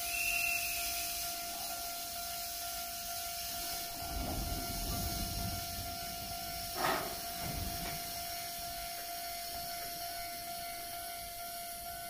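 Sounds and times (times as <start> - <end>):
air hiss: 0.0 - 11.1
train equipment whining: 0.0 - 12.0.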